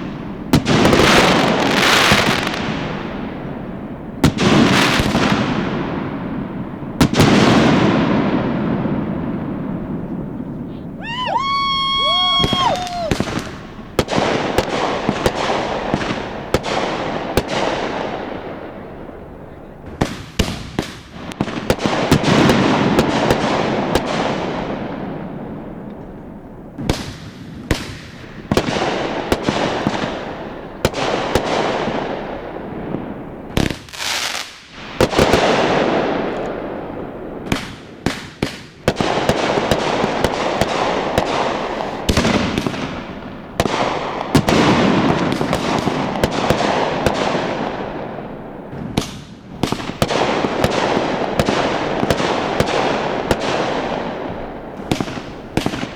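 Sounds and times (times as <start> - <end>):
fireworks bursting: 0.0 - 25.9, 26.7 - 55.9.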